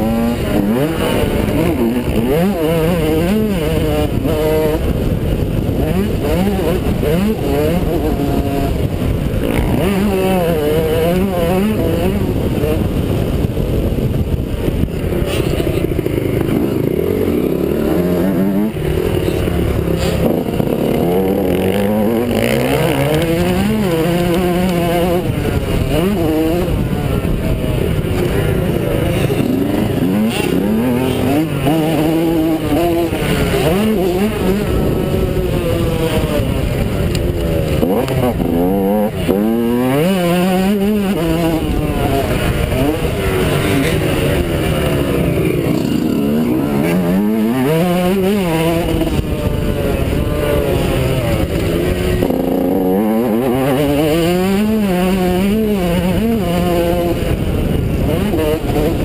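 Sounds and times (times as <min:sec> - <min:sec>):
motocross engine revving: 0:00.0 - 0:59.0.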